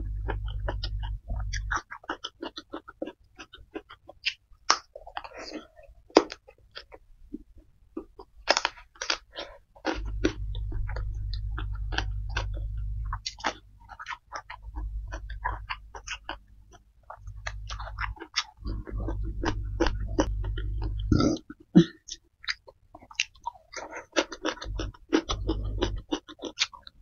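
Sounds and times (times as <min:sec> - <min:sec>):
low steady hum: 0:00.0 - 0:27.0
wet chewing and lip smacking: 0:00.2 - 0:27.0.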